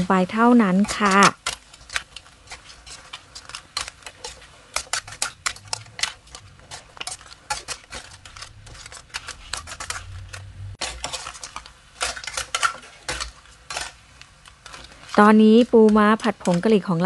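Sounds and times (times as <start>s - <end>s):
metal spatula scraping wok: 0.0s - 17.0s.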